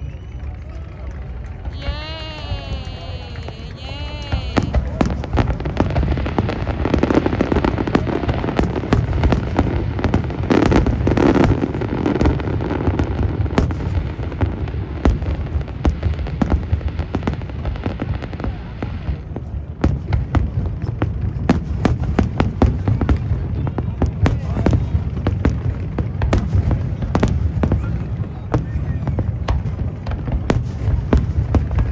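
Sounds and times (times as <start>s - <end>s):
fireworks crackling: 0.0s - 31.9s
fireworks booming: 1.5s - 31.9s.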